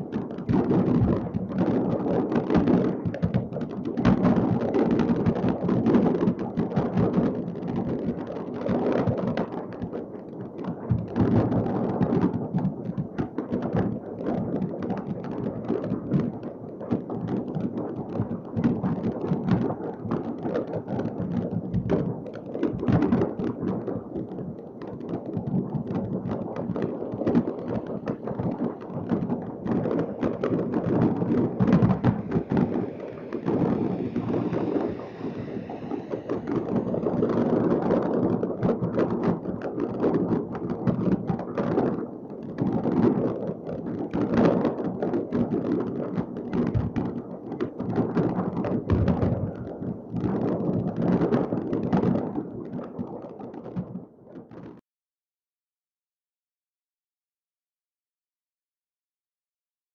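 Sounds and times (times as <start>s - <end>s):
distant fireworks booming: 0.0s - 54.8s.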